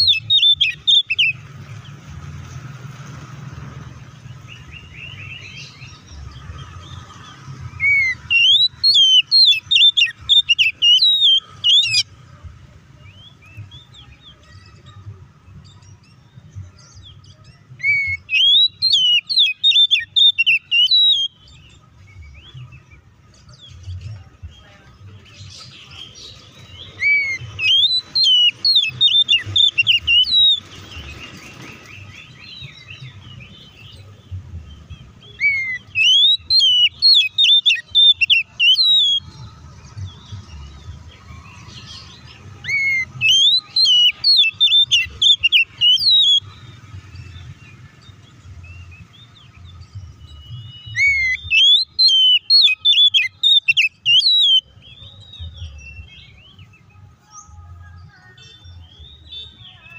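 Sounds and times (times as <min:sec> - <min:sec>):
bird singing whistles and chatter: 0:00.0 - 0:03.0, 0:03.9 - 0:59.9.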